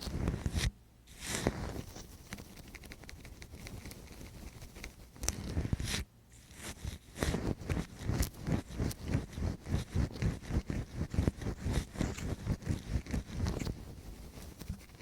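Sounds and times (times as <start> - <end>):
scraping against microphone: 0.0 - 15.0.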